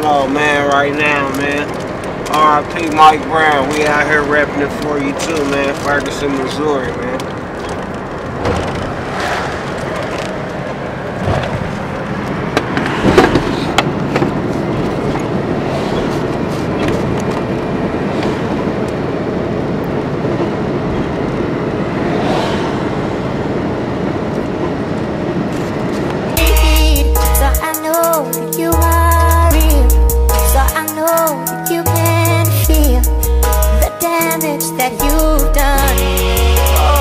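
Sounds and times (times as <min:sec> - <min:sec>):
vehicle and road noise: 0:00.0 - 0:37.0.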